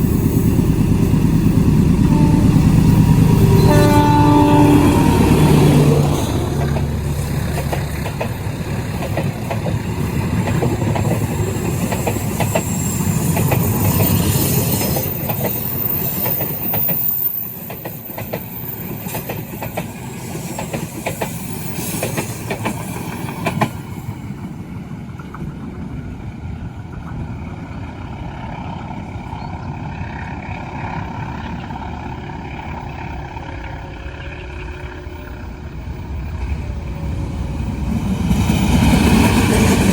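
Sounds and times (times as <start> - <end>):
train rumble: 0.0 - 39.9
train wheels clattering on rails: 0.0 - 39.9.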